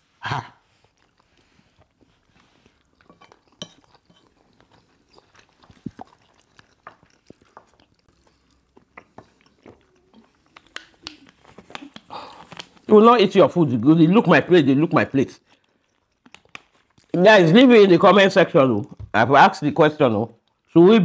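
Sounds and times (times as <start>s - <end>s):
close chewing: 0.0s - 13.3s, 14.0s - 20.8s.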